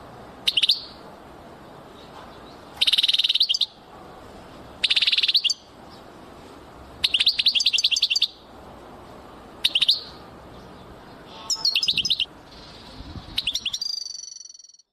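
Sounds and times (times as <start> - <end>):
songbird chirping: 0.4 - 14.9.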